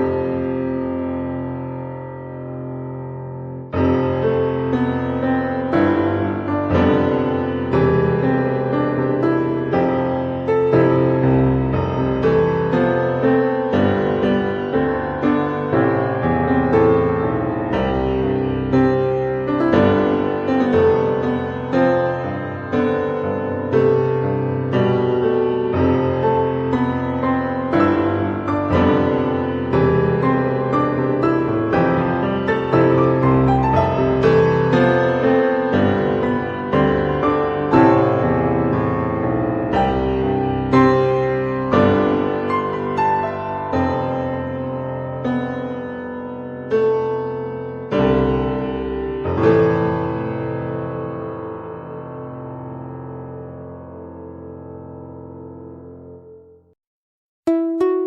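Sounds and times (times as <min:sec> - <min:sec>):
gentle piano music: 0:00.0 - 0:56.8, 0:57.5 - 0:58.0.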